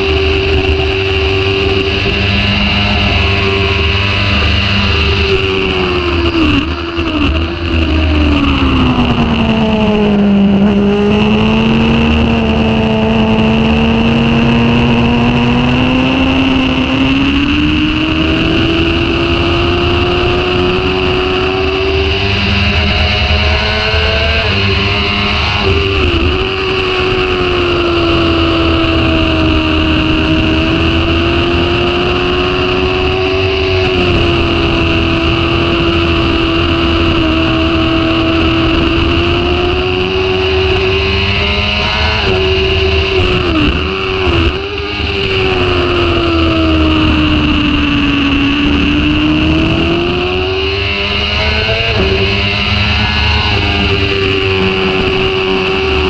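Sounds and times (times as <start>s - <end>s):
heavy wind rush: 0.0s - 56.0s
motorcycle engine at high revs: 0.0s - 56.0s.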